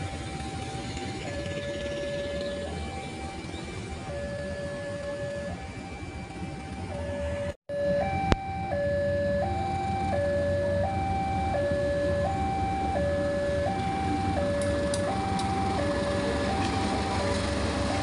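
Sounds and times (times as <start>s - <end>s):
diesel locomotive rumble: 0.0s - 18.0s
level-crossing two-tone alarm: 0.0s - 18.0s.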